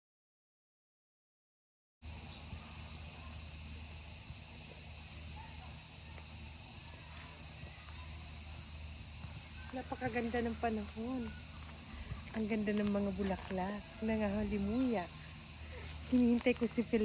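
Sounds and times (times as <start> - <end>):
cicadas droning: 2.0 - 17.0.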